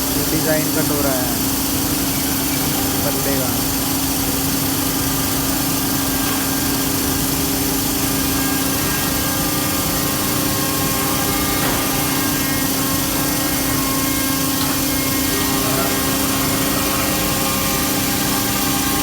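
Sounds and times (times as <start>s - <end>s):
cnc router cutting wood: 0.0s - 19.0s.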